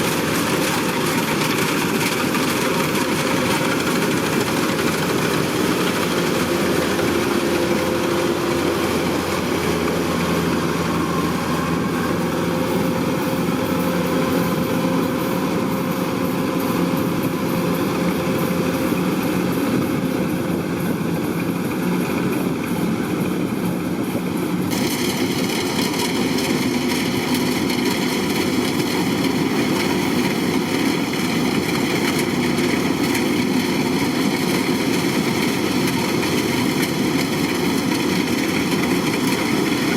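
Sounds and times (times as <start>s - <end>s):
combine harvester running: 0.0s - 39.9s
higher machine whine: 0.0s - 39.9s.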